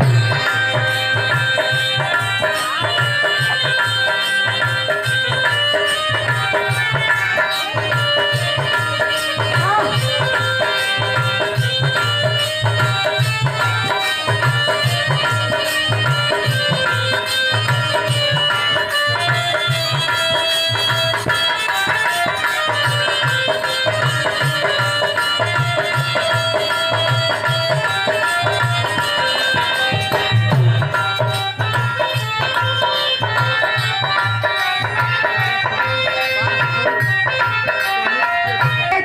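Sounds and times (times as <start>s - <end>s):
hand drum beat: 0.0s - 39.0s
melody of held notes: 0.0s - 39.0s.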